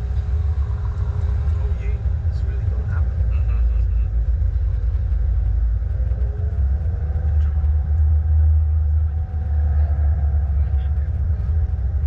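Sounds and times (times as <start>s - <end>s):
car engine rumbling: 0.0s - 12.0s
road noise: 0.0s - 12.0s.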